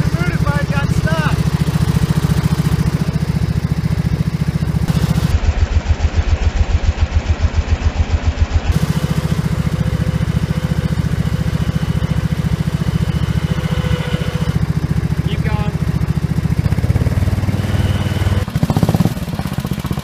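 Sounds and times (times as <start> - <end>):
small mower engine idling: 0.0 - 20.0.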